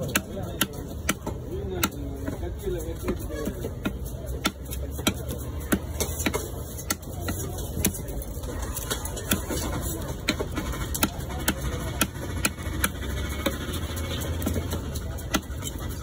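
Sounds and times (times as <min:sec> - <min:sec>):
knife chopping on wooden block: 0:00.0 - 0:02.4, 0:03.0 - 0:08.1, 0:09.3 - 0:13.6, 0:14.4 - 0:15.6.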